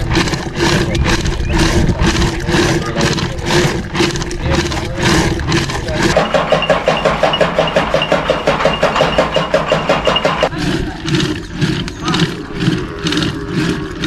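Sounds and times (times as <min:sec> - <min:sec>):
chaff cutter chopping fodder: 0:00.0 - 0:14.0
churning stick swishing in pot: 0:00.0 - 0:14.0.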